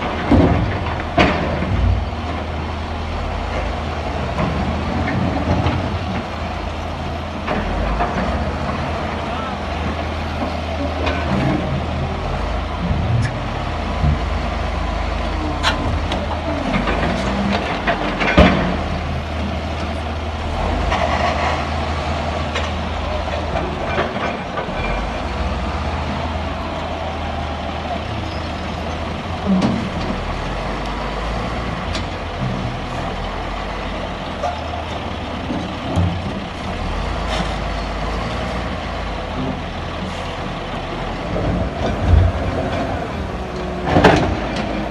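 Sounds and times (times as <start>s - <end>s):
diesel machinery rumbling: 0.0s - 44.9s.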